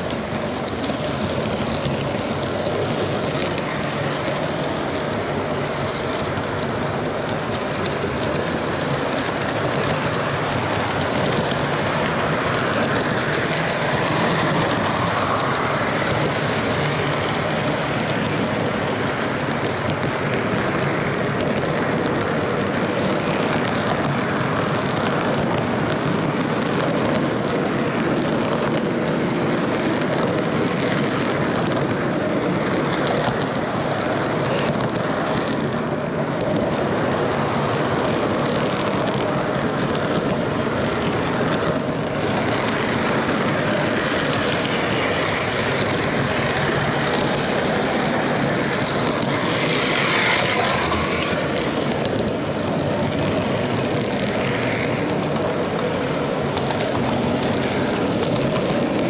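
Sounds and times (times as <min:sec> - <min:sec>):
model train wheels rattling on rails: 0:00.0 - 0:59.0.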